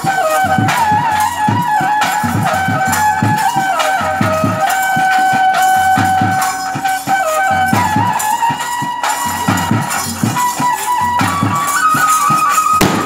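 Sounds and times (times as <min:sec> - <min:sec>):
jingling percussion: 0:00.0 - 0:13.0
steady drum beat: 0:00.0 - 0:13.0
wind instrument melody: 0:00.0 - 0:13.0.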